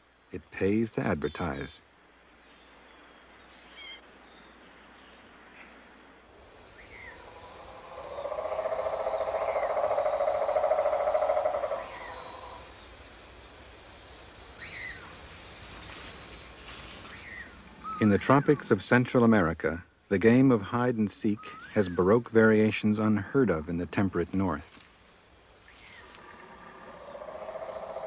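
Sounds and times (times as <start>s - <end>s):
high-pitched insect trill: 0.0s - 28.0s
rapidly pulsing insect call: 0.0s - 28.0s.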